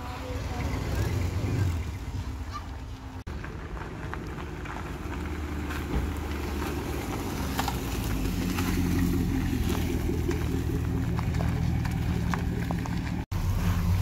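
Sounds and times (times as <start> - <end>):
car engine passing: 0.0 - 14.0
tyres crackling over gravel: 2.6 - 14.0.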